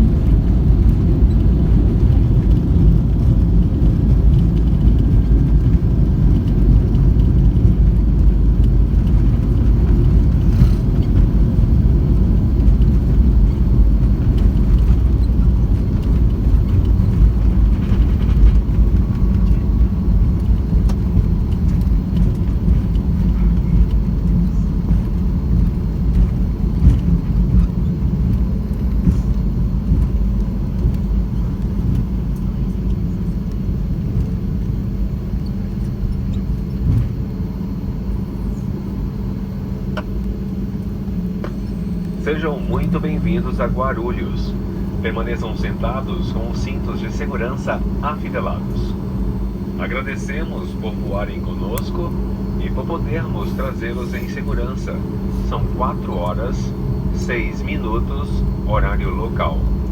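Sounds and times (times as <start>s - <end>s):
airplane cabin low rumble: 0.0s - 59.9s.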